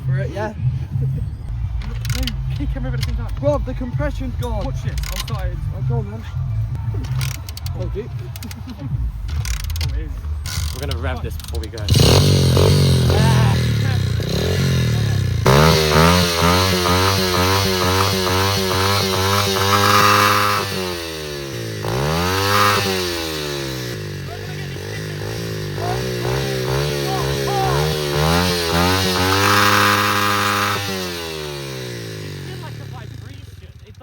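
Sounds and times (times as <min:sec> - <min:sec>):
motorbike engine revving: 0:00.9 - 0:34.0.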